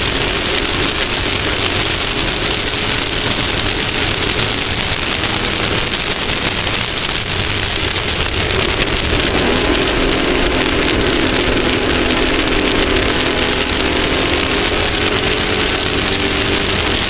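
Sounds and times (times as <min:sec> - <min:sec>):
engine droning: 0:00.0 - 0:17.0
loud rushing hiss: 0:00.0 - 0:17.0.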